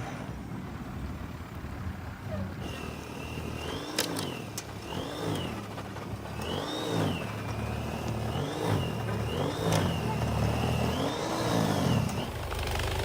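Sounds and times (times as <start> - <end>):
engine revving: 2.2 - 13.0.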